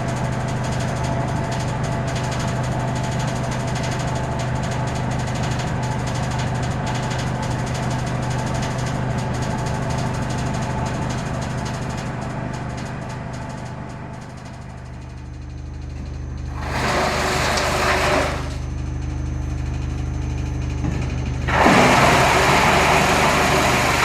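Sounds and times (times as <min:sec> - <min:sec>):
wood chipper running: 0:00.0 - 0:24.0.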